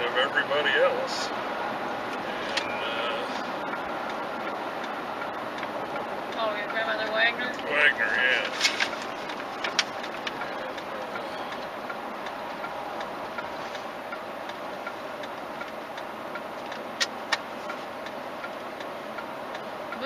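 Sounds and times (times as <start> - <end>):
car cabin road noise: 0.0 - 20.0
faint regular ticking: 0.1 - 20.0.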